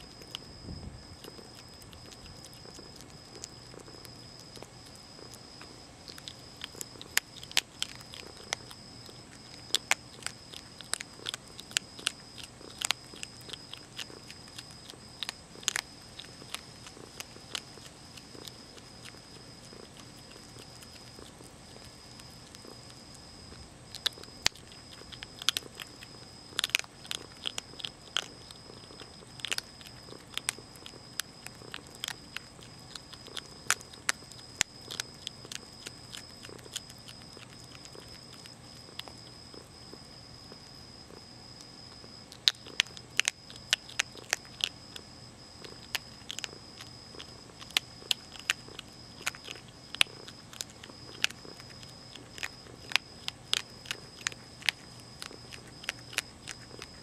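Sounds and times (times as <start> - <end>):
animal crunching dry kibble: 0.0 - 57.0.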